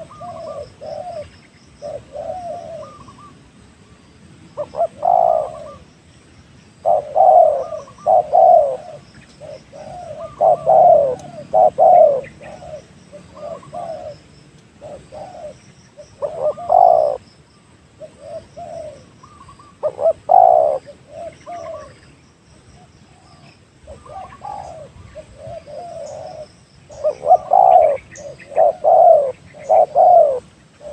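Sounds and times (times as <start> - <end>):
dove cooing: 0.0 - 3.4, 4.6 - 5.9, 6.8 - 17.2, 18.0 - 22.0, 22.8 - 30.9
small birds chirping: 0.0 - 30.9.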